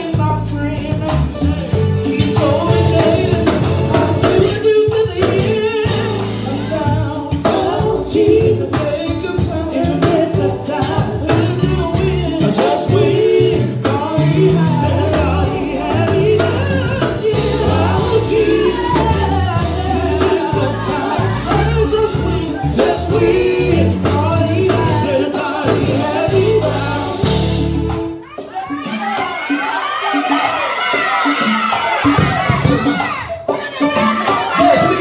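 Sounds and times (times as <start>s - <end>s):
band with bass and beat: 0.0s - 35.0s
gospel singers: 0.0s - 35.0s.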